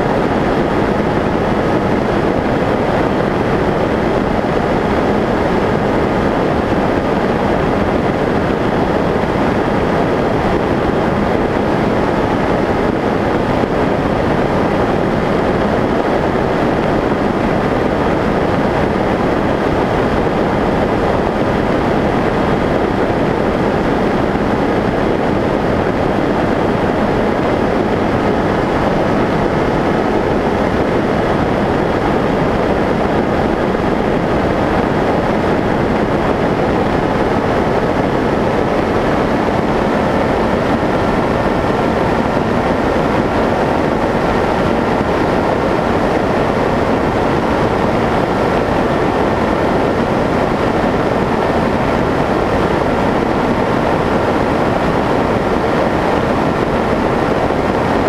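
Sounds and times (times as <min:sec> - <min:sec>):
airflow rushing over microphone: 0:00.0 - 0:58.0.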